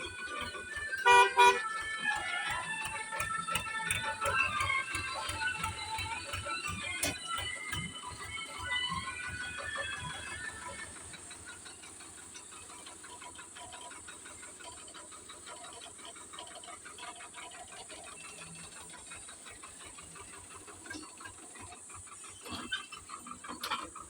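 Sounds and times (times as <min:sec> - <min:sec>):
tractor diesel engine clattering: 0:00.0 - 0:24.0.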